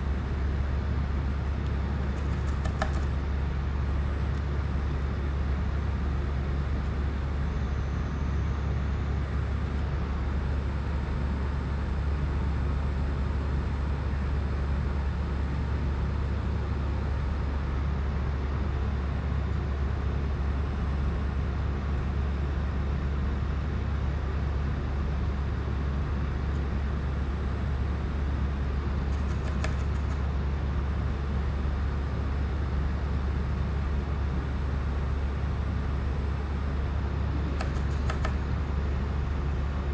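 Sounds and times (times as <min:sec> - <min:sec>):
low hum and rumble: 0:00.0 - 0:39.9.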